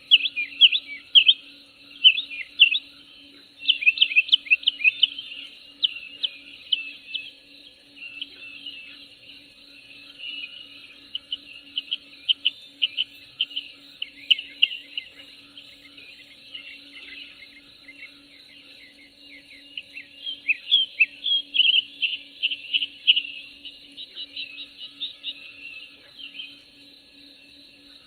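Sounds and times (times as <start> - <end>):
faint low hum: 0.0 - 28.0
insect drone: 0.0 - 28.0
small birds chirping: 0.0 - 28.0.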